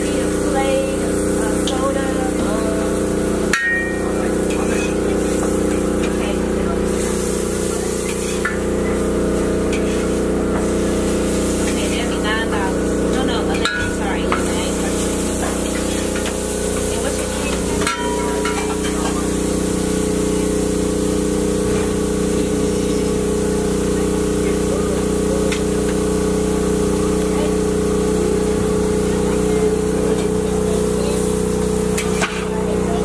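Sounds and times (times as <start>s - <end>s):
faint voices: 0.0s - 33.0s
machine humming: 0.0s - 33.0s.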